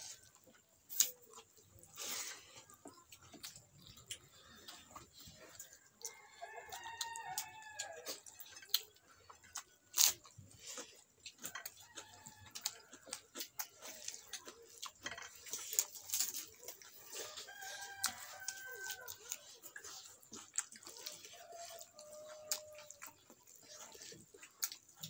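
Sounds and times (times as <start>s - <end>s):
chewing and mouth clicks: 0.0s - 25.0s.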